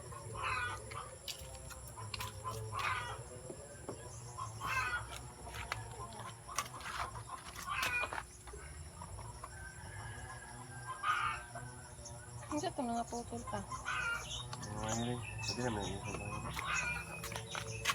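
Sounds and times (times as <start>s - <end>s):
chickens clucking: 0.0s - 17.9s.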